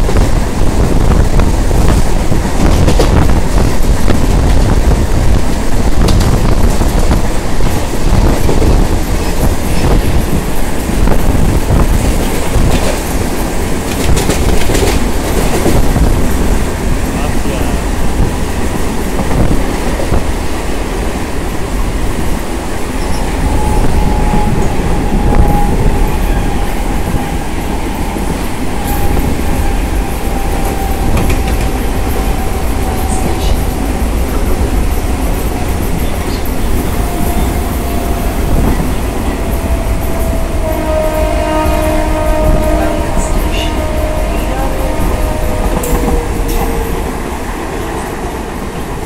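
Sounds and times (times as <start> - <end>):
train wheels rumbling and rattling: 0.0 - 49.0.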